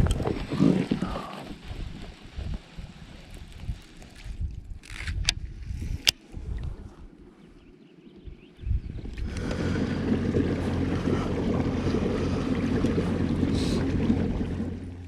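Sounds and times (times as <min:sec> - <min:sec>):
rushing wind and water: 0:00.0 - 0:15.0.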